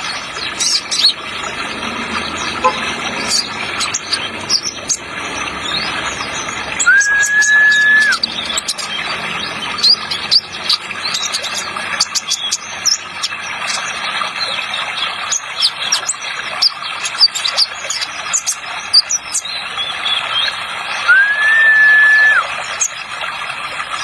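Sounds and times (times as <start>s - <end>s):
sunbird chirping and twittering: 0.0s - 20.8s
running water: 0.0s - 24.0s.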